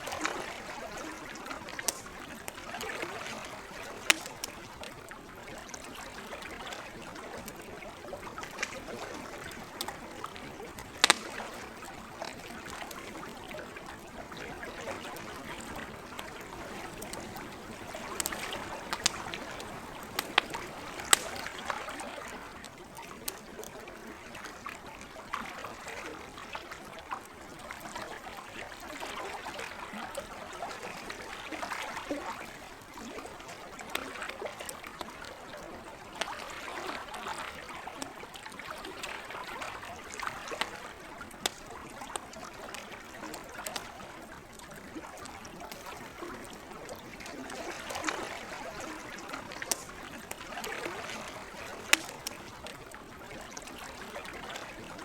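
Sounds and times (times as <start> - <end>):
campfire crackling: 0.0 - 26.3, 27.0 - 55.0
lake water lapping: 0.0 - 55.0.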